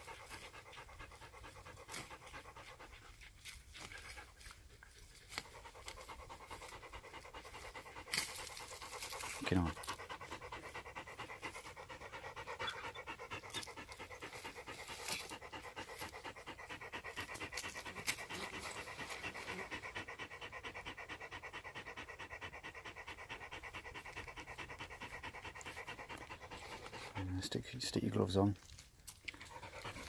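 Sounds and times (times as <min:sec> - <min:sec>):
dog panting: 0:00.0 - 0:30.0.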